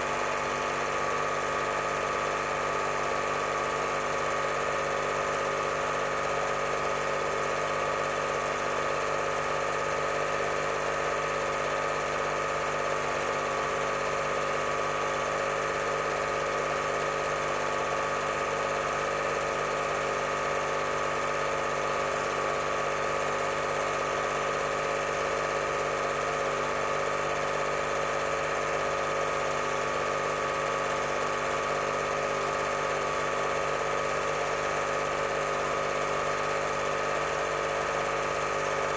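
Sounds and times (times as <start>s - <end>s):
film projector running: 0.0s - 38.9s.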